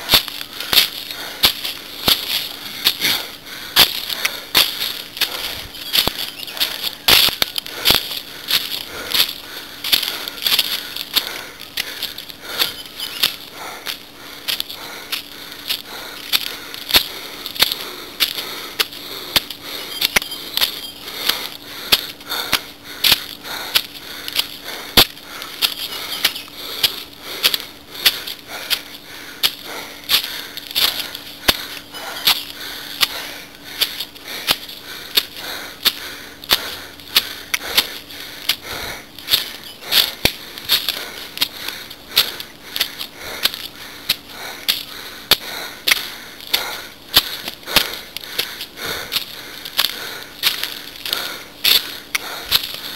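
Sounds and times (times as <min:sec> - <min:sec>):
footsteps on stone and leaves: 0:00.0 - 0:52.9.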